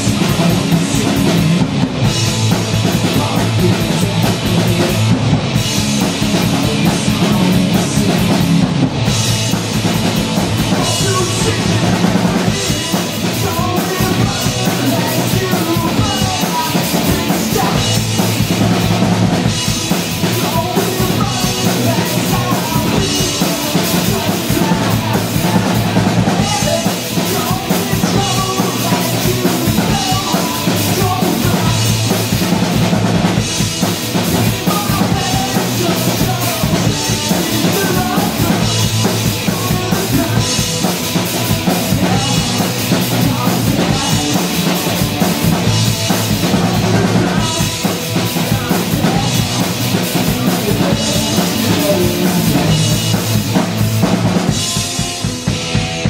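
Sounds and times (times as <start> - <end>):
drum kit beaten hard: 0.0 - 56.0
electric guitar: 0.0 - 56.0
live punk rock band: 0.0 - 56.0.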